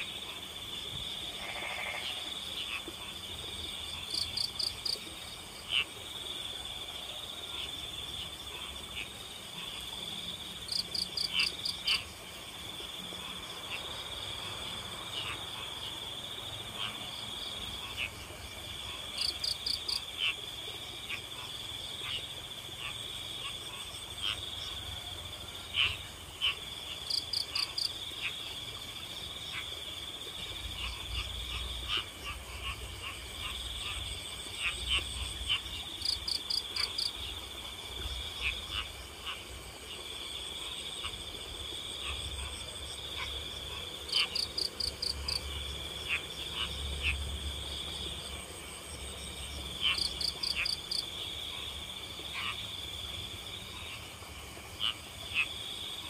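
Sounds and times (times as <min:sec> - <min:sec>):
crickets trilling: 0:00.0 - 0:06.8, 0:07.4 - 0:20.1, 0:20.8 - 0:56.0
frog calls: 0:00.0 - 0:56.0.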